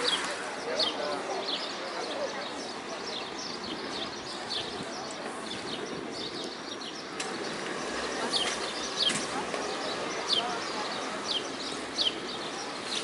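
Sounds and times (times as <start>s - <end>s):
background street hum: 0.0s - 13.0s
small birds chirping: 0.0s - 13.0s.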